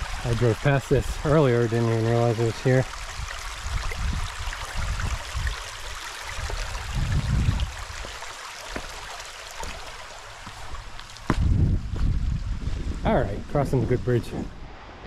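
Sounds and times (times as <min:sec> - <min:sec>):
creek trickling over stones: 0:00.0 - 0:14.4.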